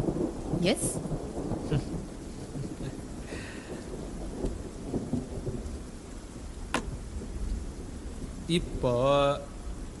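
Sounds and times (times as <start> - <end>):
rumble of thunder: 0.0 - 10.0
steady rain: 0.0 - 10.0.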